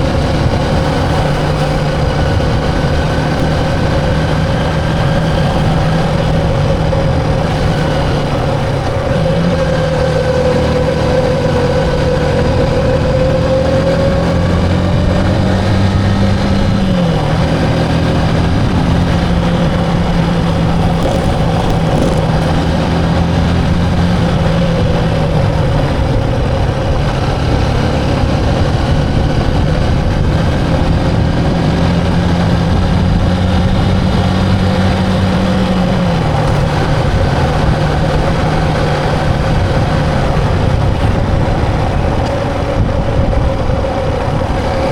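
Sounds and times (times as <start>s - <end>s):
motorcycle engine running: 0.0s - 44.9s
road and wind noise: 0.0s - 44.9s.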